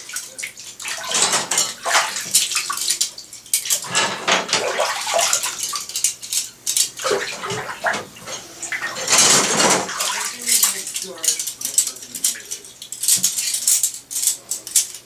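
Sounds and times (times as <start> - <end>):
metal spoons clinking: 0.0 - 7.7, 8.3 - 15.0
water splashing in a bathtub: 0.0 - 14.8.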